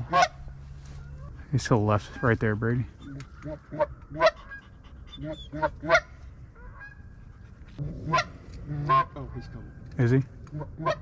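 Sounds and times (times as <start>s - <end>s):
goose honking: 0.0s - 7.1s, 7.8s - 9.6s, 10.5s - 11.0s.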